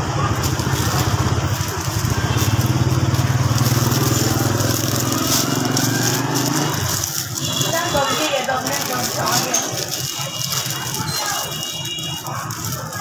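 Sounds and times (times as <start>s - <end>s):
plastic gloves crinkling: 0.0s - 13.0s
small motorbike engine running: 0.0s - 13.0s.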